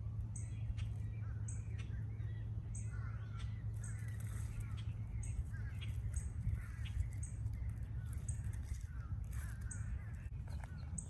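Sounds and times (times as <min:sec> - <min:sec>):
birds calling: 0:00.0 - 0:11.0
steady low rumble: 0:00.0 - 0:11.0.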